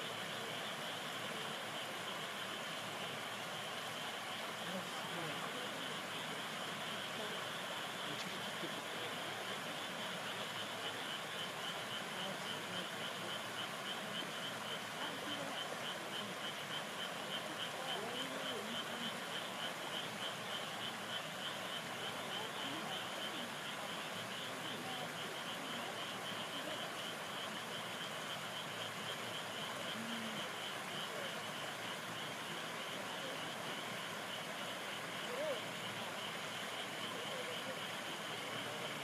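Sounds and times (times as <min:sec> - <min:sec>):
frogs croaking: 0:00.0 - 0:39.0
small stream flowing: 0:00.0 - 0:39.0.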